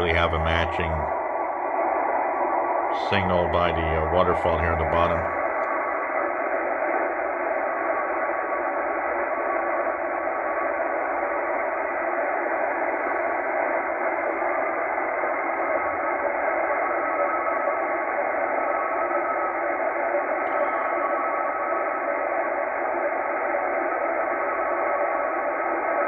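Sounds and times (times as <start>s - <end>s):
faint steady data tones: 0.0s - 26.0s
radio band noise hiss: 0.0s - 26.0s.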